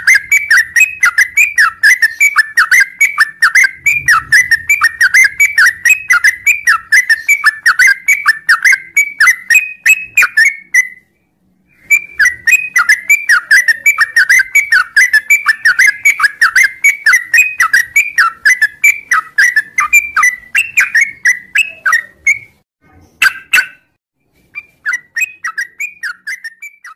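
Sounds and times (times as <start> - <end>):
bulbul singing whistled notes: 0.0 - 11.1, 11.7 - 22.6, 24.5 - 26.9.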